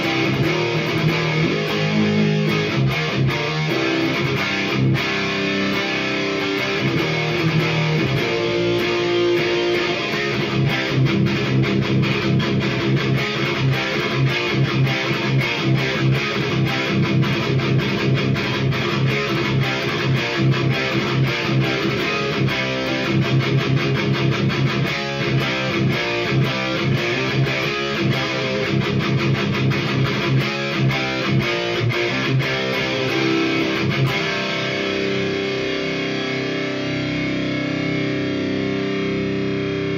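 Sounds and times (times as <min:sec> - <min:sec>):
electric guitar riff: 0:00.0 - 0:39.9.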